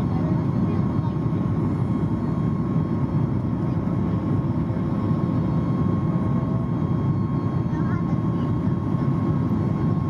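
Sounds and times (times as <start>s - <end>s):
jet engine cabin noise: 0.0s - 10.0s.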